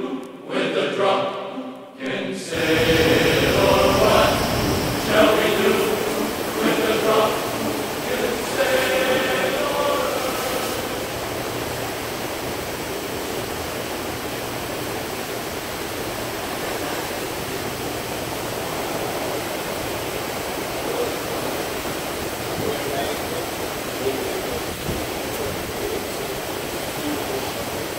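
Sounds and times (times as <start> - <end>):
sea water rushing along hull: 2.3 - 27.9.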